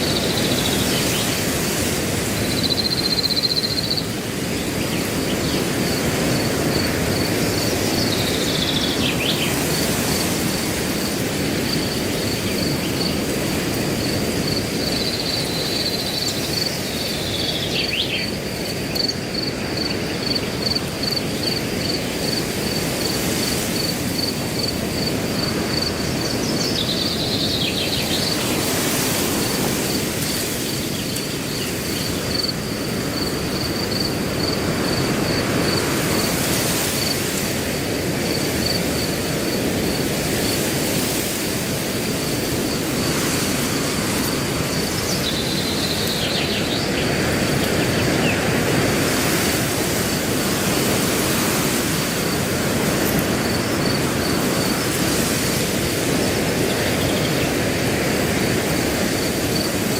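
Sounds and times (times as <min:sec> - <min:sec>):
cricket chirping trill: 0:00.0 - 0:59.9
wind blowing through grass: 0:00.0 - 0:59.9.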